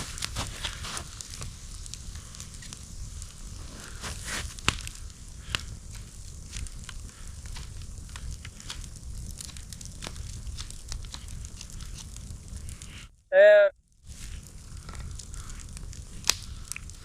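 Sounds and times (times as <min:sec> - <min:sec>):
burning wood popping: 0:00.0 - 0:13.2, 0:13.8 - 0:17.0
campfire crackling: 0:00.0 - 0:17.0.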